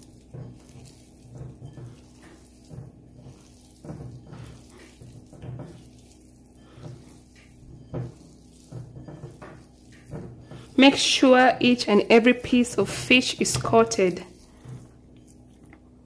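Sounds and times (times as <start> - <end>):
hands rubbing wet fish: 0.0 - 16.0.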